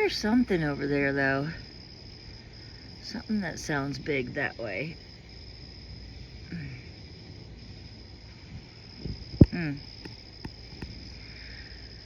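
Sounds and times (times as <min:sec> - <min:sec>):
crickets chirring: 0:00.0 - 0:12.0
low background rumble: 0:00.0 - 0:12.0.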